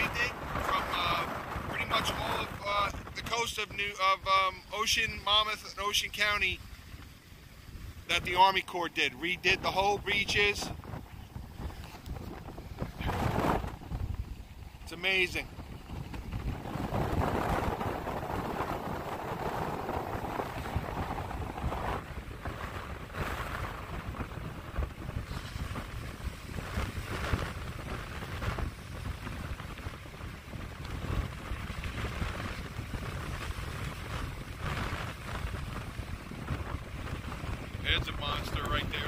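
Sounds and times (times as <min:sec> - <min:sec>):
gusty wind buffeting microphone: 0:00.0 - 0:39.0
storm surf breaking on beach: 0:00.0 - 0:39.0.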